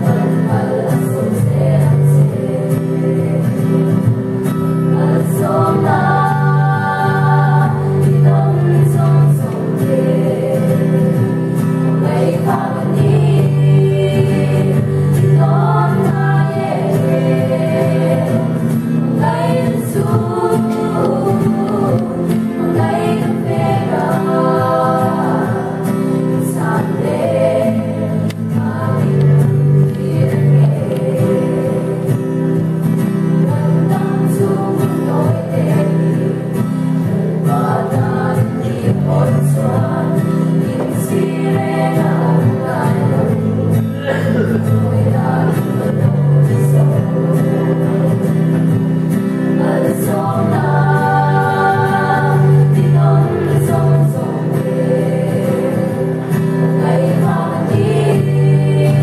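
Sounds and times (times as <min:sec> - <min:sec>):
acoustic guitar: 0:00.0 - 0:59.0
women singing in harmony: 0:00.0 - 0:59.0.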